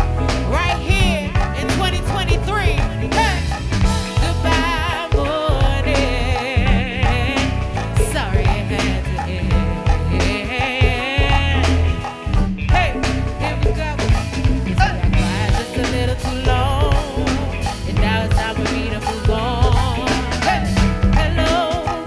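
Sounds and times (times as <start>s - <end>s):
drum groove: 0.0s - 22.0s
heavy bass: 0.0s - 22.0s
lead voice singing with vibrato: 0.0s - 22.0s.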